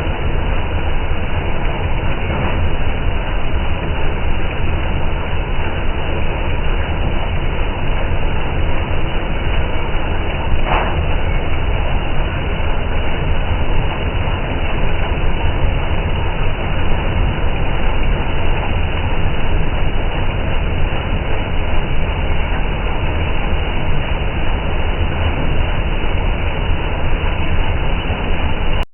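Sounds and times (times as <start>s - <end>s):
combine harvester rumbling: 0.0s - 28.9s.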